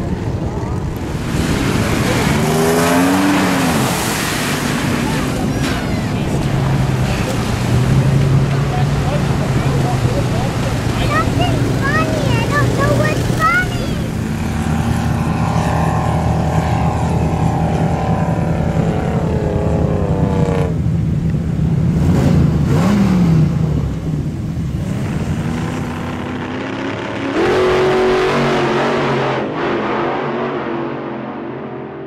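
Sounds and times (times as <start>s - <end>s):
suv engines revving hard: 0.8s - 21.0s, 21.6s - 32.0s.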